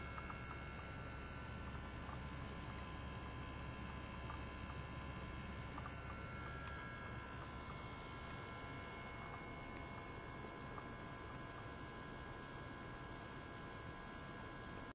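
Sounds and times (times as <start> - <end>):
electrical hum: 0.0 - 14.9.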